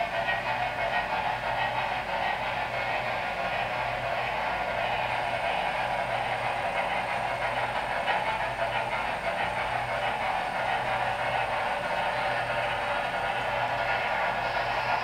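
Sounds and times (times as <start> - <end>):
model steam locomotive sound: 0.0 - 15.0
model train wheels rolling: 0.0 - 15.0.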